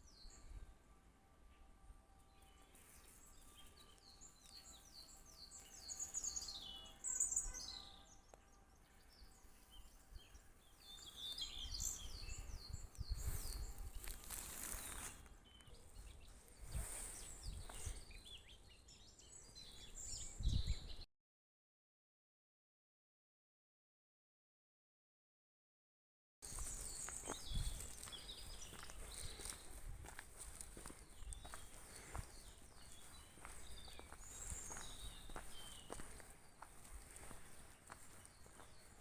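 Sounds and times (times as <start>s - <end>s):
wild birds chirping: 2.3s - 21.0s, 26.4s - 39.0s.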